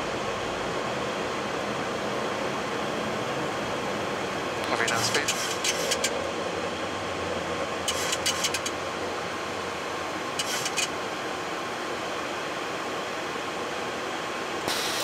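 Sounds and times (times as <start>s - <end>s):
airflow and engine noise: 0.0s - 15.0s.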